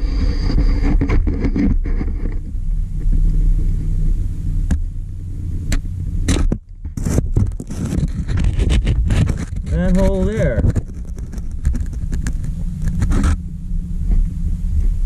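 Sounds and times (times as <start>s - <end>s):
knocks and scrapes: 0.0s - 15.0s
microphone handling rumble: 0.0s - 15.0s
wind noise on microphone: 0.0s - 15.0s.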